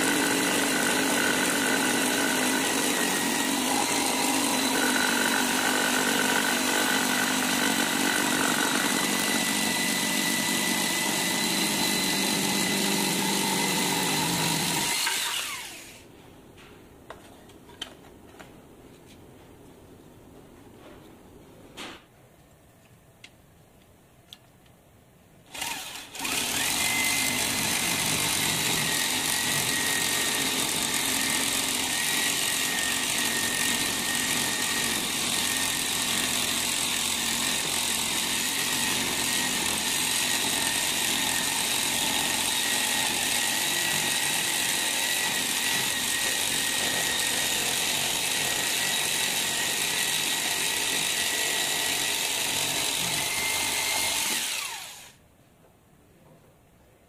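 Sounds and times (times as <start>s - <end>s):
electric drill whine: 0.0s - 16.0s, 25.5s - 55.2s
saw blade cutting wood: 0.0s - 16.0s, 25.5s - 55.2s.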